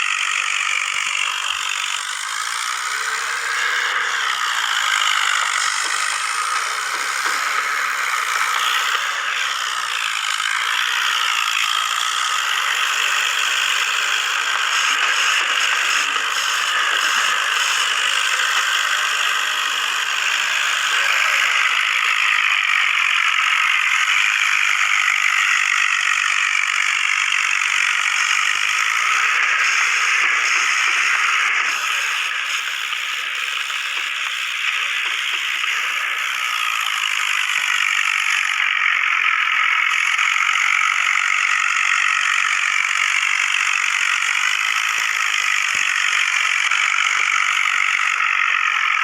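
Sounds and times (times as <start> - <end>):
tractor engines clattering: 0.0 - 49.0.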